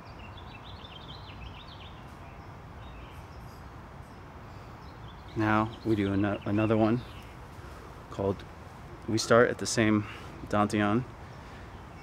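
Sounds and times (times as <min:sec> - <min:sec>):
low outdoor background hum: 0:00.0 - 0:12.0
songbirds chirping: 0:00.0 - 0:12.0.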